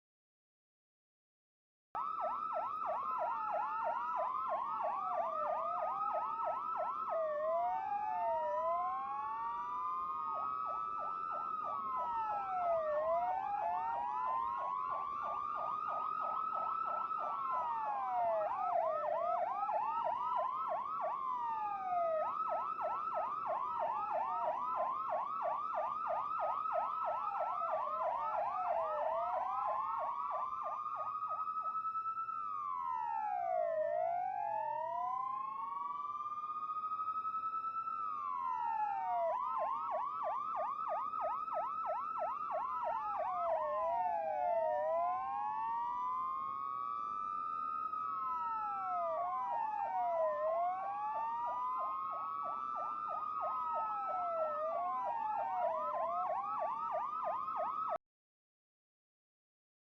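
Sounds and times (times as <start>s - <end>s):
police sirens wailing and yelping: 2.0s - 58.0s.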